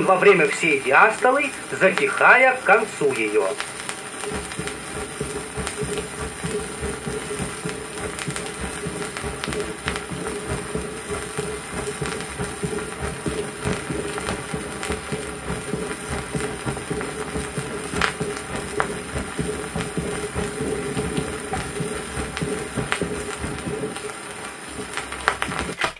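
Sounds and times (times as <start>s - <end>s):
heartbeat: 0.0s - 25.8s
record pop: 0.0s - 25.9s
record surface hiss and crackle: 0.0s - 25.9s
soft blowing heart murmur: 2.8s - 25.7s.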